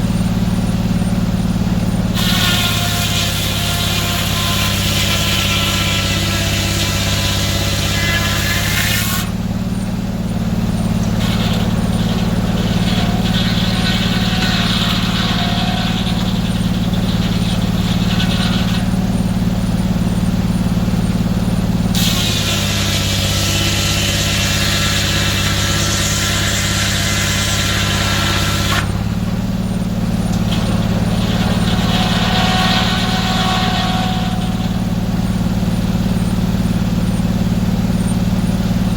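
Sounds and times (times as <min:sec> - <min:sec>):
high ringing whine: 0:00.0 - 0:08.6, 0:09.3 - 0:38.9
sawmill engine running: 0:00.0 - 0:38.9.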